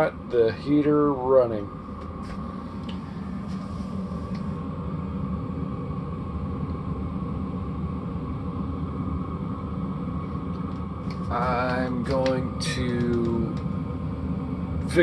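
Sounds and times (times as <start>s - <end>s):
air heater blower rumble: 0.0s - 15.0s
faint steady hum: 0.0s - 15.0s.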